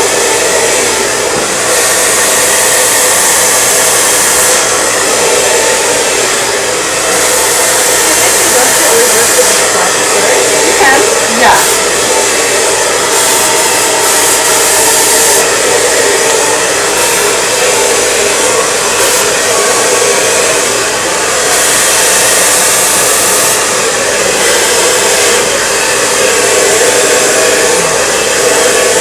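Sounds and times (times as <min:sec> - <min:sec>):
blow dryer running: 0:00.0 - 0:29.0.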